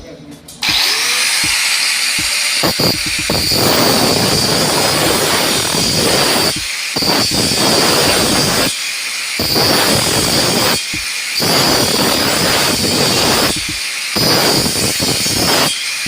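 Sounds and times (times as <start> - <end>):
angle grinder cutting steel: 0.6 - 16.0.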